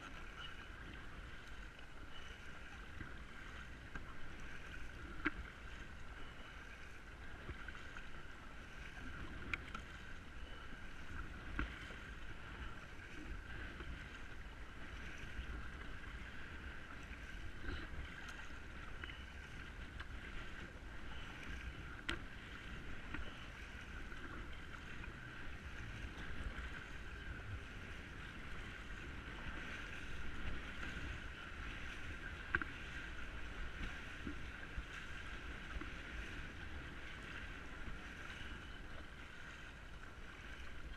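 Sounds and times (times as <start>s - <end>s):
paddle splashes: 0.0s - 40.9s
water lapping at hull: 0.0s - 40.9s
wind rumble on microphone: 0.0s - 40.9s.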